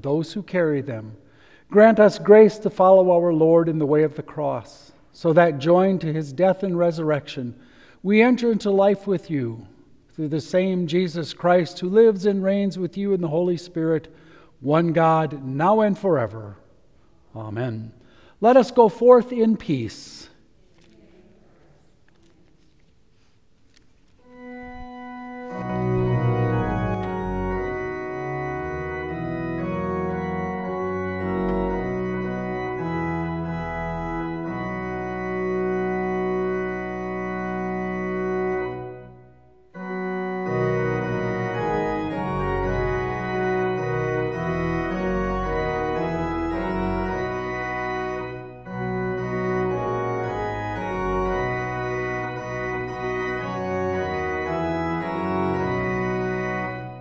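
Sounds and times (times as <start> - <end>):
church organ playing chords: 0.0 - 16.6, 24.2 - 57.0.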